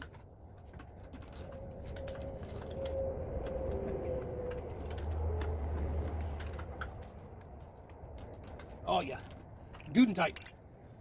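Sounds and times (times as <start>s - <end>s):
vehicle passing rumble: 0.3s - 9.9s.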